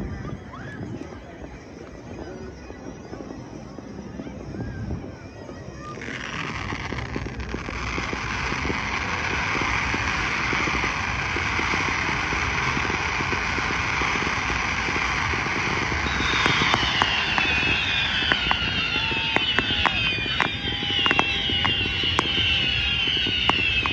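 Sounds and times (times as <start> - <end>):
crackling firework pops: 0.0 - 23.9
faint falling whistles: 0.0 - 23.9
fireworks fountain hissing: 0.0 - 23.9.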